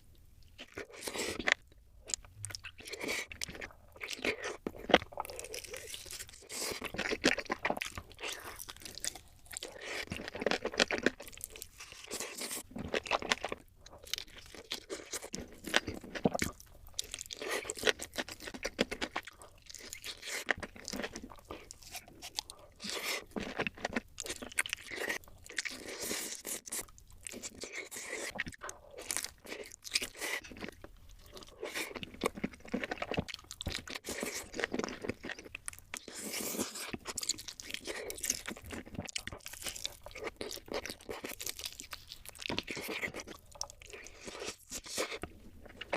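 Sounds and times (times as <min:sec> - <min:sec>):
person chewing crunchy food: 0:00.0 - 0:45.9.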